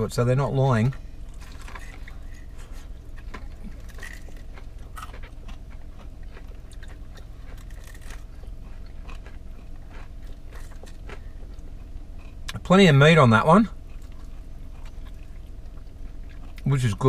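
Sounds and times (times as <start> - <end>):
low steady hum: 0.0 - 17.0
chewing crispy chicken: 0.9 - 17.0.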